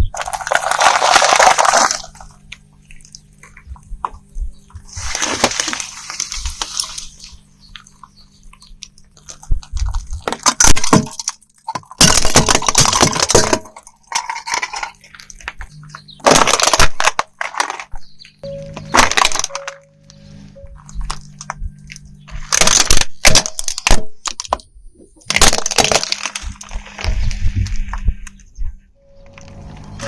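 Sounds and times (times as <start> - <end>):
objects crunching under car tyre: 0.0 - 28.5
low steady hum: 0.0 - 30.0.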